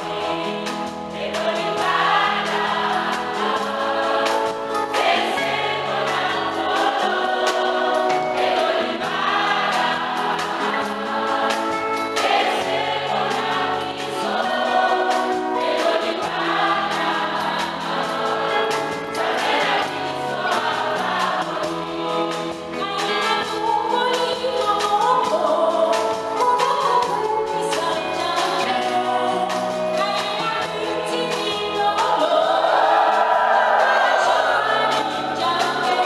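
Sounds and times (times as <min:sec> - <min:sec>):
mixed choir singing gospel: 0:00.0 - 0:36.0.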